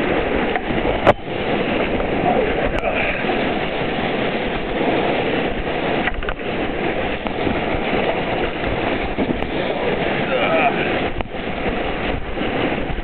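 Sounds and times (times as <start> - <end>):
whitewater rushing and splashing: 0.0 - 13.0.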